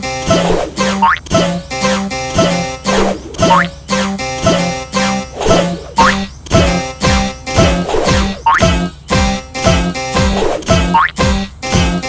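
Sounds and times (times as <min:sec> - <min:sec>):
plucked-string accompaniment: 0:00.0 - 0:12.0.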